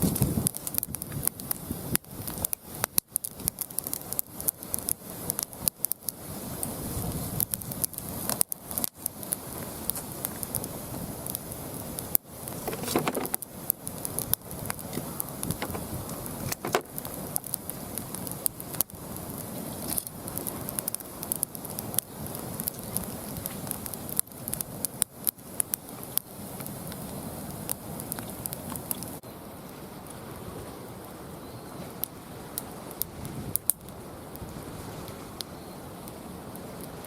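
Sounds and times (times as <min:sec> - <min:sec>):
wood fire crackling and popping: 0:00.0 - 0:29.2, 0:31.9 - 0:37.0.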